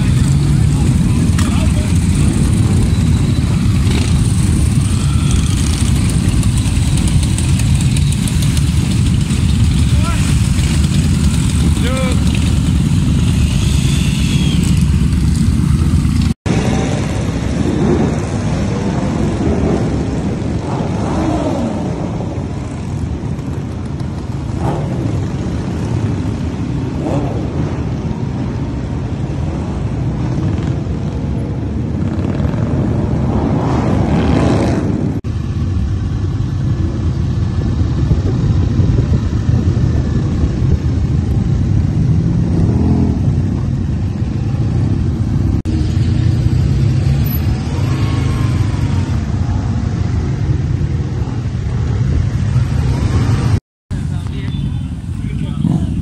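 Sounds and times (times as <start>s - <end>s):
motorcycles accelerating: 0.0s - 56.0s
motorcycles cruising: 0.0s - 56.0s.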